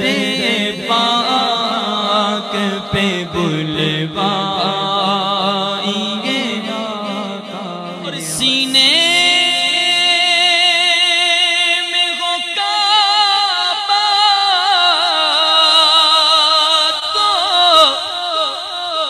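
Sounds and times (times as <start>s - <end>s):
man singing chant-like: 0.0s - 19.0s.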